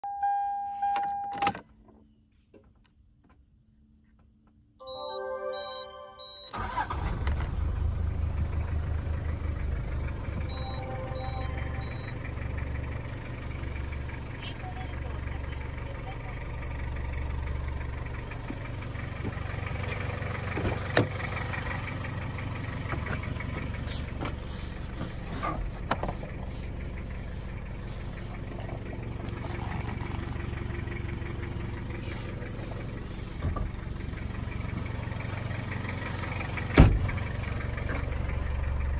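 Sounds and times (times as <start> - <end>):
diesel engine idling: 6.5 - 38.9.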